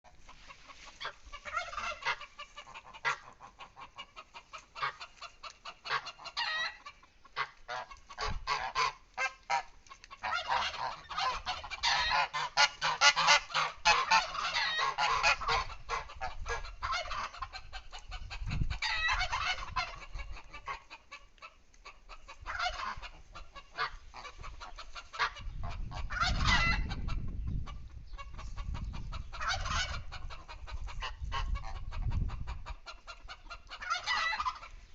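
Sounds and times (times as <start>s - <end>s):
chickens clucking: 0.1s - 34.9s
honking and quacking poultry: 0.1s - 34.9s.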